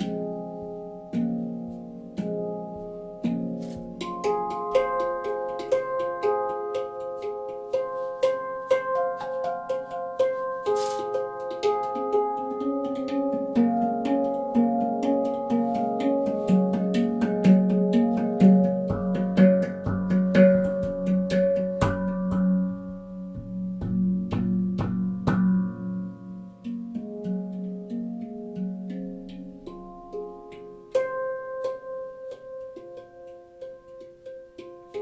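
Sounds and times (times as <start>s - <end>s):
handpan notes ringing: 0.0s - 35.0s.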